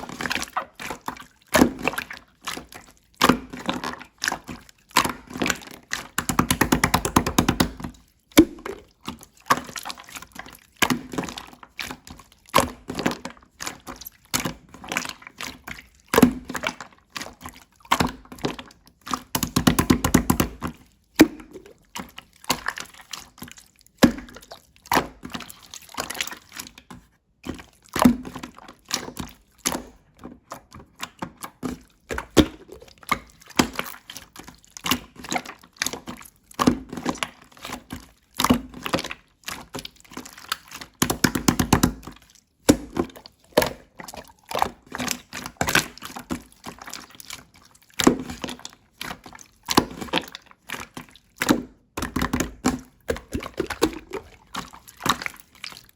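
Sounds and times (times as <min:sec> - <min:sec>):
slime squelching: 0:00.0 - 0:55.9.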